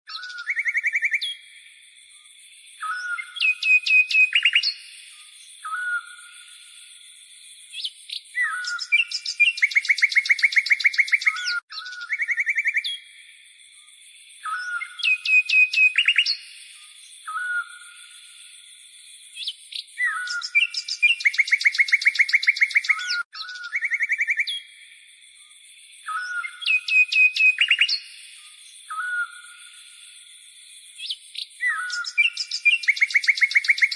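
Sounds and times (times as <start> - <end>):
songbird whistles and trills: 0.1 - 25.0, 26.0 - 33.9.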